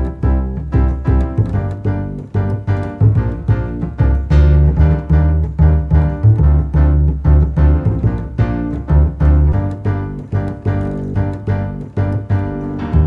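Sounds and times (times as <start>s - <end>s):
bass line: 0.0s - 13.0s
keyboard background music: 0.0s - 13.0s.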